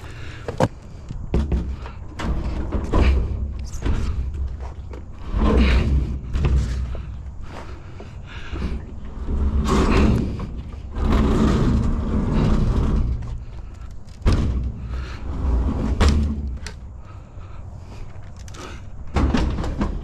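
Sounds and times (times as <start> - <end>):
scrap clattering and thumping: 0.2 - 17.2, 18.2 - 20.0.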